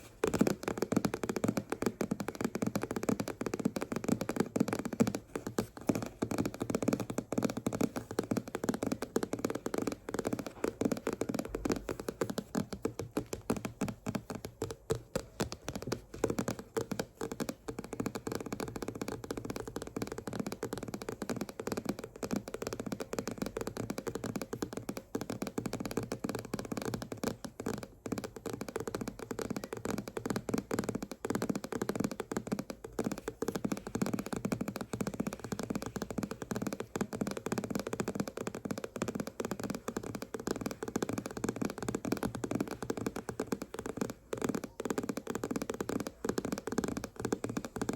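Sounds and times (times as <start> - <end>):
fingers tapping on a book: 0.0 - 47.9.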